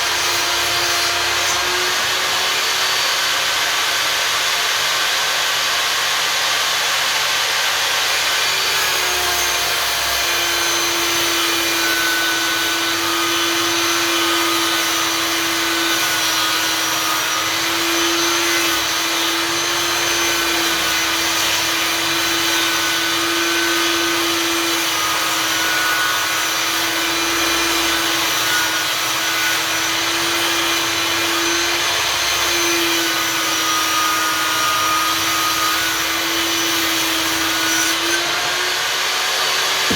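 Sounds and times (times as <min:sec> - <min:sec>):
table saw cutting board: 0:00.0 - 0:39.9.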